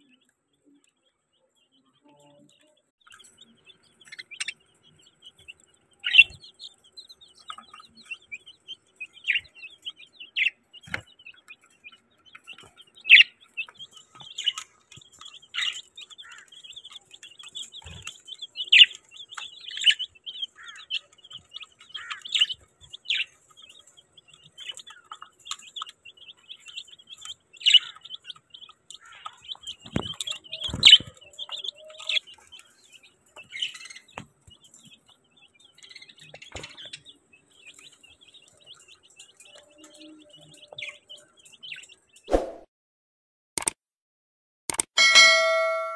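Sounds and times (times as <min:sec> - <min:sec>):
baby chicks peeping: 0:00.0 - 0:42.3, 0:45.0 - 0:45.9.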